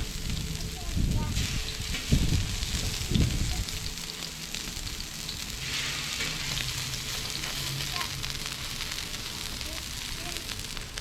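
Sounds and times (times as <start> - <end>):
scallops sizzling in oil: 0.0 - 11.0.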